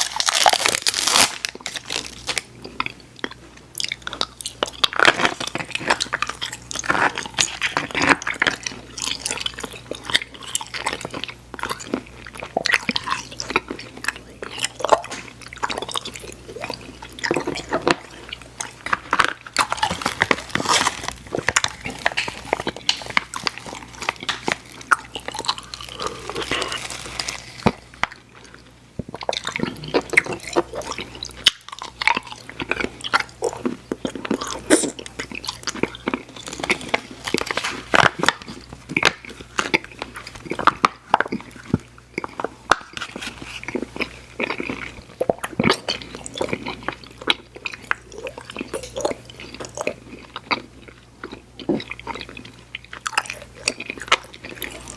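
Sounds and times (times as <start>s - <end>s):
mouth chewing sticky candy: 0.0s - 54.9s.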